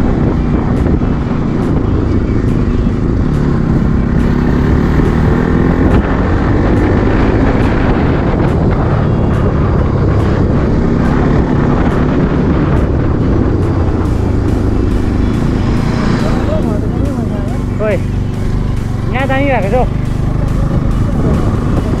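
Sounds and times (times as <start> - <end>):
motorcycle engine running: 0.0 - 22.0
road noise: 0.0 - 22.0
wind rush: 0.0 - 22.0.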